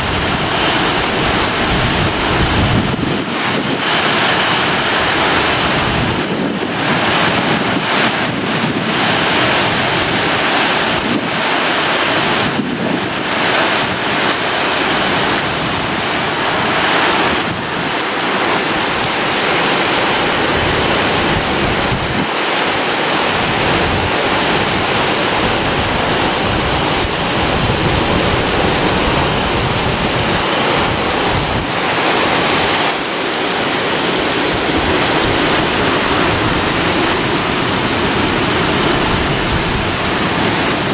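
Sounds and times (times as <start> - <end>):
strong wind gusts: 0.0 - 40.9
wind buffeting microphone: 0.0 - 40.9.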